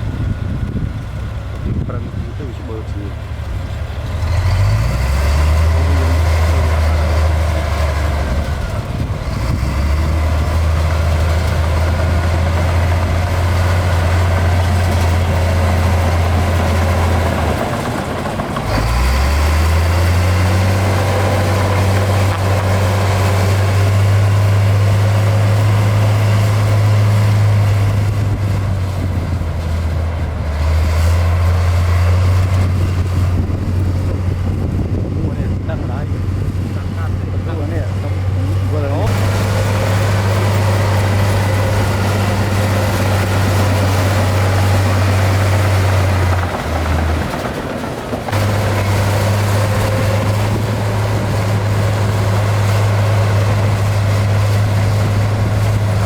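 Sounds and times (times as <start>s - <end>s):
heavy diesel machinery drone: 0.0s - 56.0s.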